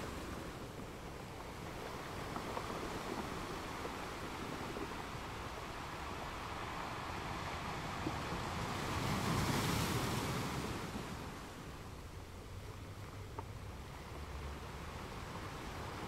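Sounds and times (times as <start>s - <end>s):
car tyre and road noise: 0.0s - 16.0s.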